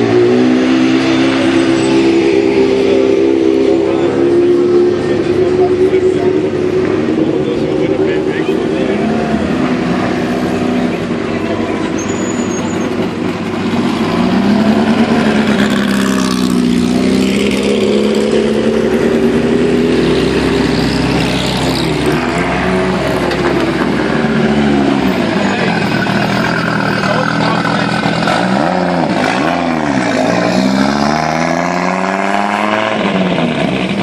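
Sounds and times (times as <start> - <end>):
racing car engines at low revs: 0.0 - 12.1, 12.8 - 34.0.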